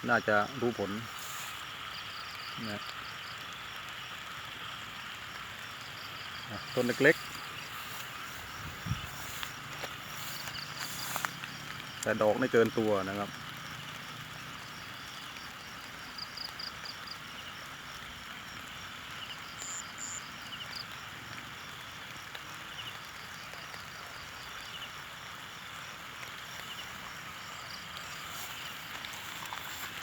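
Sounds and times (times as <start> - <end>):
faint insect chirping: 0.0 - 30.0
rain hissing: 0.0 - 30.0.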